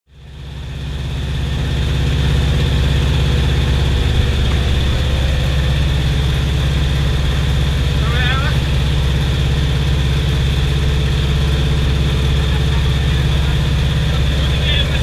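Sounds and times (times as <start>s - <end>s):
propeller plane engine droning: 0.1s - 15.0s.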